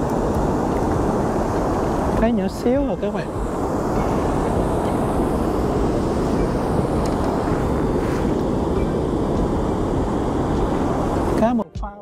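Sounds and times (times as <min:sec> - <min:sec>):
wind buffeting the microphone: 0:00.0 - 0:11.5.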